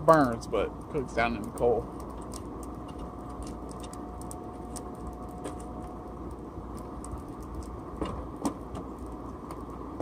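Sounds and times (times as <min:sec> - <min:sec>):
burning coal crackling: 0:00.0 - 0:10.0.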